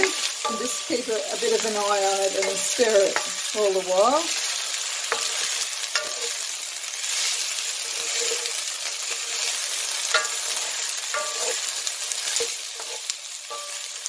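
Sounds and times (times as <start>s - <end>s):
onion and potato sizzling in pan: 0.0s - 14.0s.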